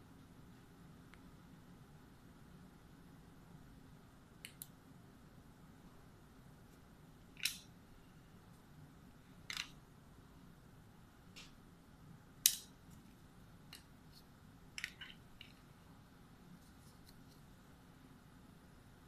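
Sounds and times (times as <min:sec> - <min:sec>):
faint room noise: 0:00.0 - 0:19.0.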